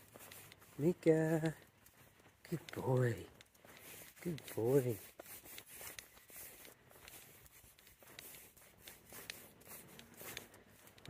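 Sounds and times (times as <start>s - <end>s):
footsteps scuffing on paving: 0.0s - 11.0s
light irregular ticks: 0.0s - 11.0s.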